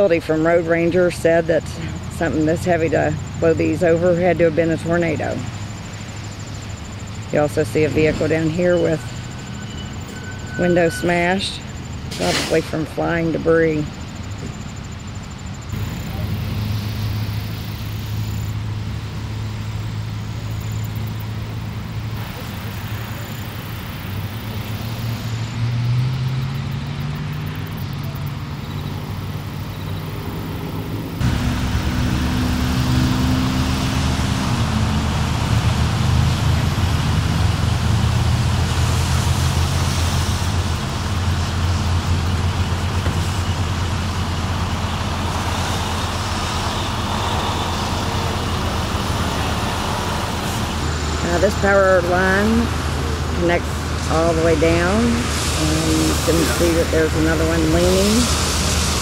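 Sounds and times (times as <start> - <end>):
road traffic hum: 0.0 - 59.0.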